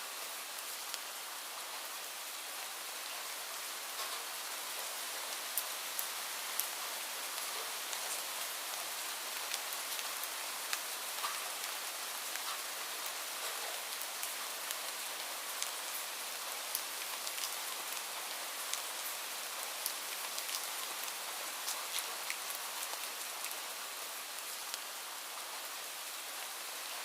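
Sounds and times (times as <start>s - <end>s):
rain hissing: 0.0s - 27.0s
raindrops ticking on a surface: 0.1s - 1.5s, 2.2s - 27.0s.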